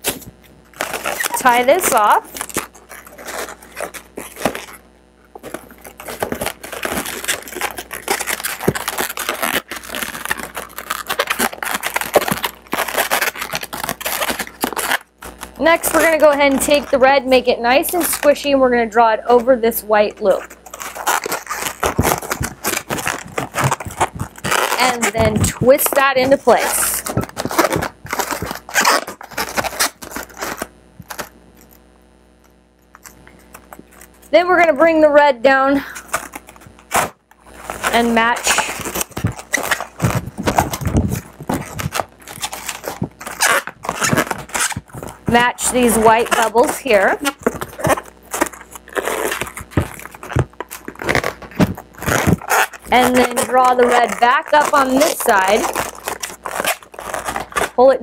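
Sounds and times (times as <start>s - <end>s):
balloons squeaking and rubbing: 0.0s - 31.9s, 32.6s - 58.0s.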